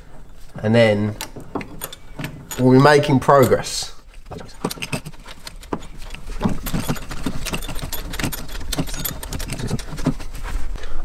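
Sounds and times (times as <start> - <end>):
hand ratchet clicking: 1.1 - 10.2.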